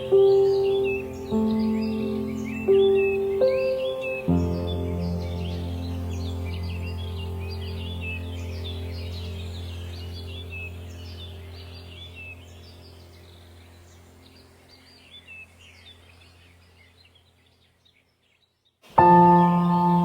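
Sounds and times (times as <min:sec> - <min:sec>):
low steady drone: 0:00.0 - 0:17.3
small birds chirping: 0:00.0 - 0:20.0.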